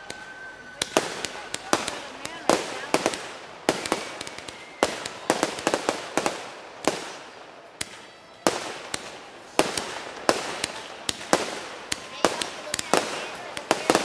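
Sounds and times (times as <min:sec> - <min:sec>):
fireworks bangs with echo: 0:00.0 - 0:14.0.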